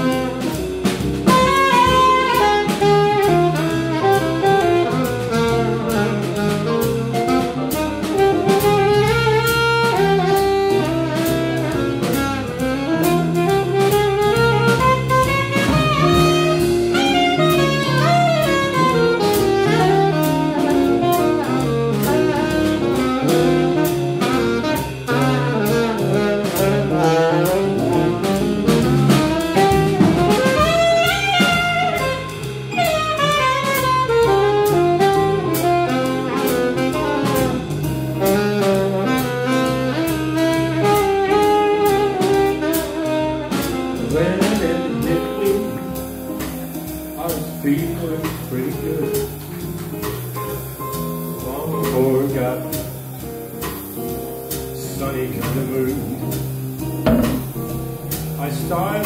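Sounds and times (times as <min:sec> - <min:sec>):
drum kit: 0:00.0 - 0:59.0
guitar: 0:00.0 - 0:59.0
low bass notes: 0:00.0 - 0:59.0
saxophone melody: 0:00.0 - 0:59.0.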